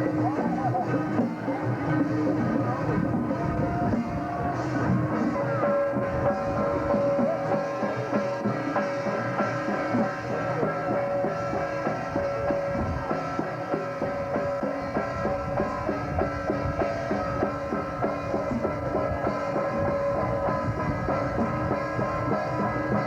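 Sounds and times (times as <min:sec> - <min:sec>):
drum and cymbal beating: 0:00.0 - 0:23.0.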